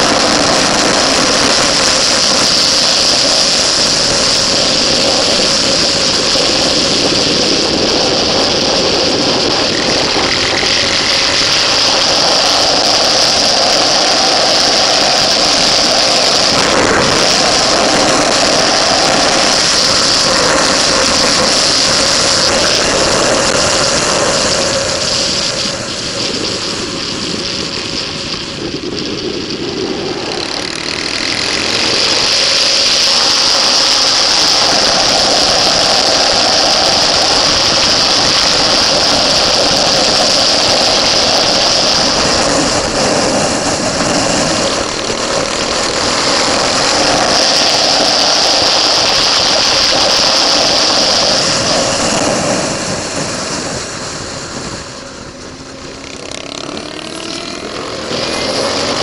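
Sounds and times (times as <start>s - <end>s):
motorcycle engine running hard: 0.0s - 59.0s
wind rush: 0.0s - 59.0s.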